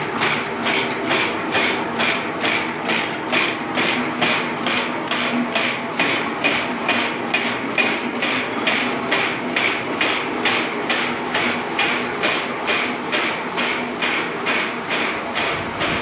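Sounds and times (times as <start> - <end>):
machine clacking: 0.0 - 16.0.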